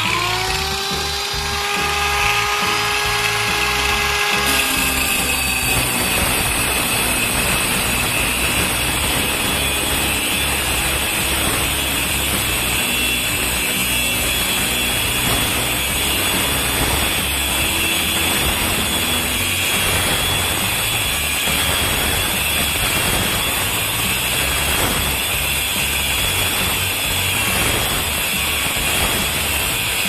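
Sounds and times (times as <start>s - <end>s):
angle grinder whine: 0.0s - 30.0s
grinder cutting into workpiece: 0.0s - 30.0s.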